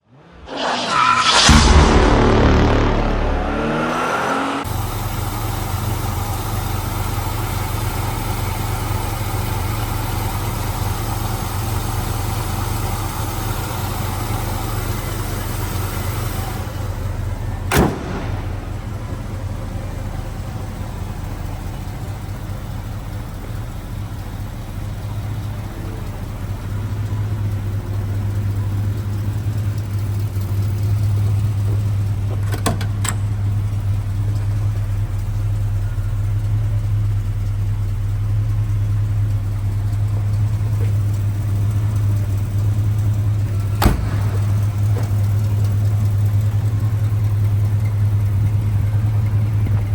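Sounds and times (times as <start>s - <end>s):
car engine idling: 1.3s - 49.9s.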